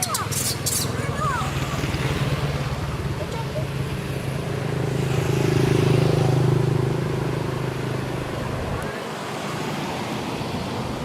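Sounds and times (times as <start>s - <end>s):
road and outdoor noise: 0.0s - 11.0s
vehicle engine passing: 0.0s - 11.0s.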